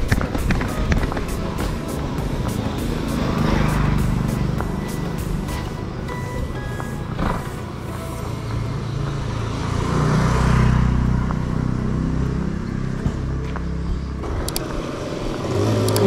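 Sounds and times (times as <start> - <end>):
vehicle passing by: 1.4 - 16.0.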